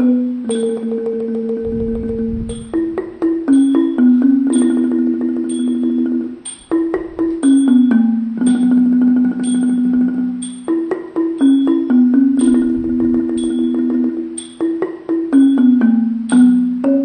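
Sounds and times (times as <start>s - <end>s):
xylophone instrumental music: 0.0s - 17.0s.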